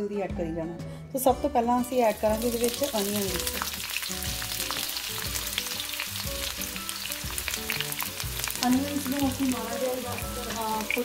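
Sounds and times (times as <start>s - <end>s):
onions sizzling in hot oil: 1.9s - 11.0s.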